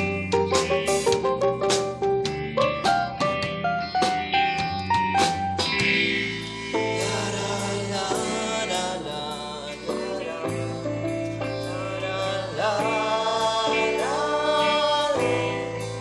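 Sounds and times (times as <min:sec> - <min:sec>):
acoustic band playing: 0:00.3 - 0:16.0.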